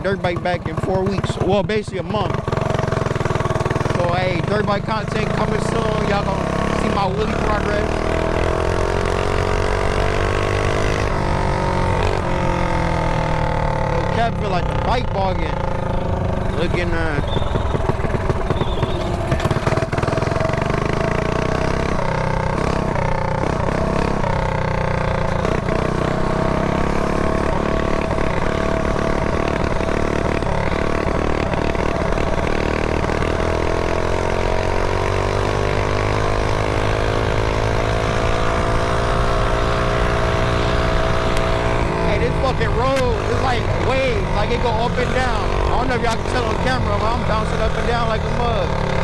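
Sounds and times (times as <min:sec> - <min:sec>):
mini bike engine running: 0:00.0 - 0:49.0.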